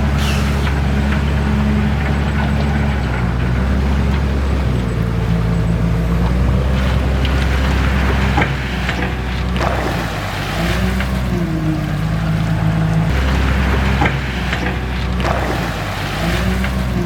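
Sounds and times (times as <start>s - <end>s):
diesel engine running: 0.0s - 17.0s
water noise: 0.0s - 17.0s.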